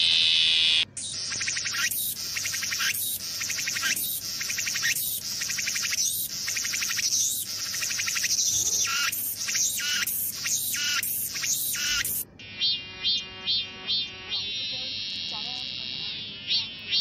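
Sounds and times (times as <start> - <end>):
cicada rasping buzz: 0.0 - 17.0.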